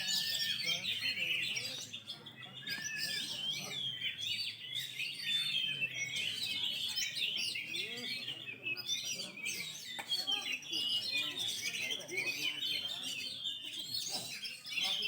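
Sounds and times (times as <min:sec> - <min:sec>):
birds singing rapid whistles: 0:00.0 - 0:15.0.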